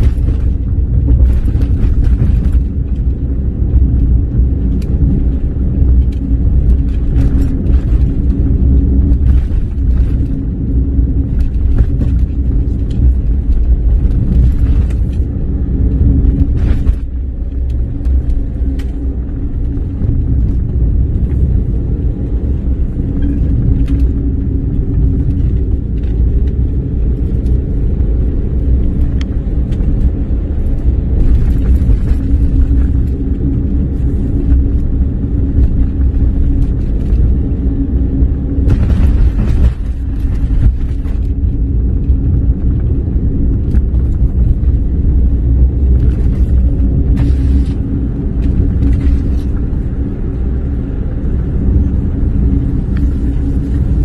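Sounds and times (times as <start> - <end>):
car engine and tyres rumbling: 0.0 - 54.0
clatter: 0.0 - 54.0
steady hum: 0.0 - 54.0.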